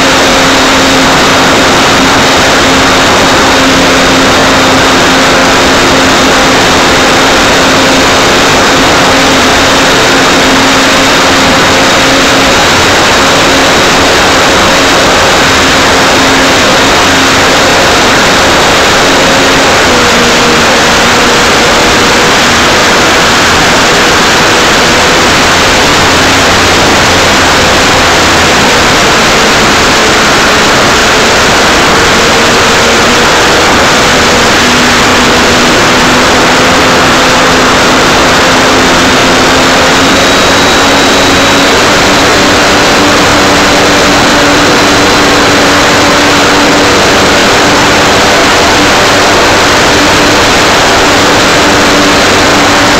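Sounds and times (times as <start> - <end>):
model plane motor buzzing: 0.0 - 52.9
thin high whine: 0.0 - 52.9
wind rush: 0.0 - 52.9.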